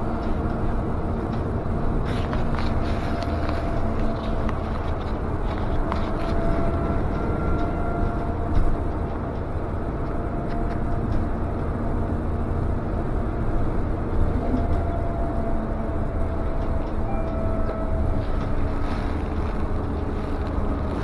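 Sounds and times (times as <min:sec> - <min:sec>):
bus engine and road rumble: 0:00.0 - 0:21.0
faint whine: 0:00.0 - 0:21.0.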